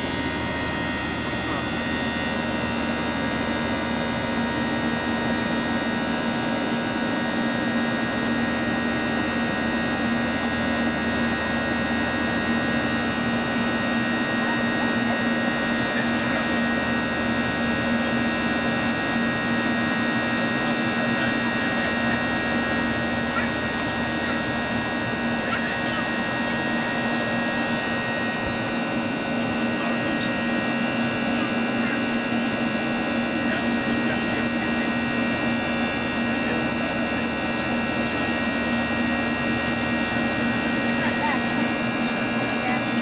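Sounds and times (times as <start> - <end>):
aircraft cabin engine drone: 0.0 - 43.0.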